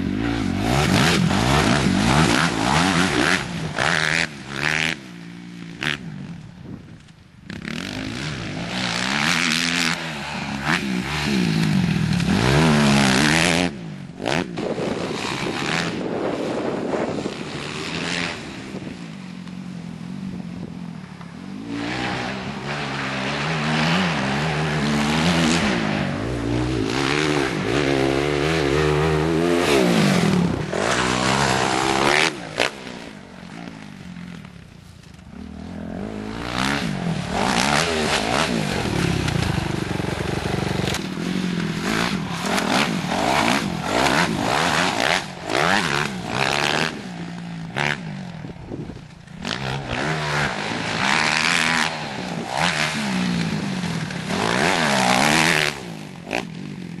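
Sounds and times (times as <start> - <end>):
dirt bike engine revving: 0.0 - 6.4, 7.4 - 19.0, 21.4 - 34.6, 35.2 - 57.0.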